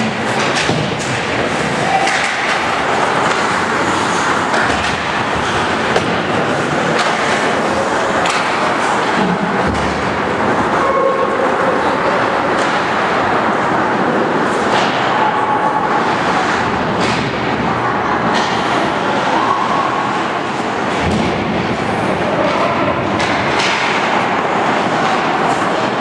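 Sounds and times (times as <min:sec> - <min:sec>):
hockey sticks and puck clacking: 0:00.0 - 0:11.1, 0:12.4 - 0:13.4, 0:14.0 - 0:21.8, 0:22.4 - 0:26.0.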